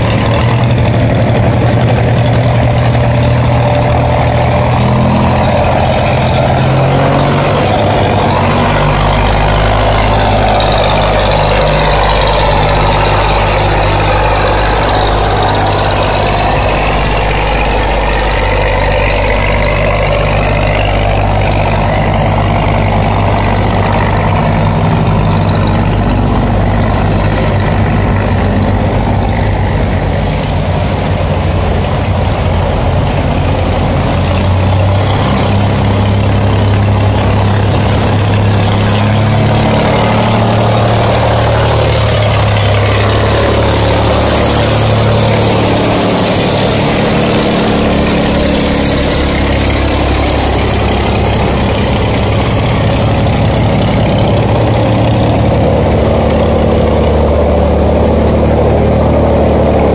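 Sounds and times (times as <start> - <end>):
churned river water rushing: 0.0 - 59.9
heavy boat engines running: 0.0 - 59.9.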